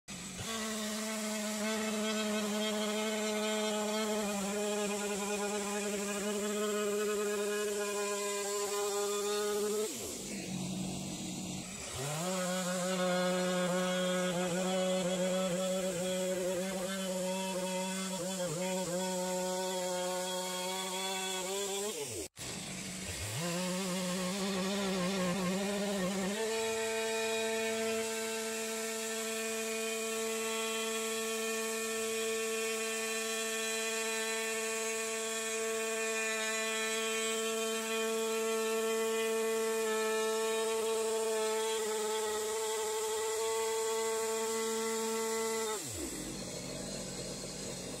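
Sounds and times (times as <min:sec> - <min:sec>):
chainsaw ripping through wood: 0:00.1 - 0:48.0.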